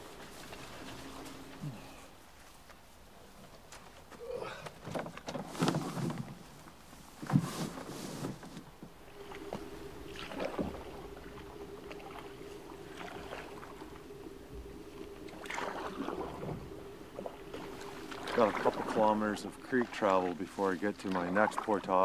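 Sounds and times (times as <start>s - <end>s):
paddle strokes swishing in water: 0.0s - 2.7s, 5.0s - 22.0s
canoe rustling: 0.0s - 22.0s
faint steady hum: 0.0s - 22.0s.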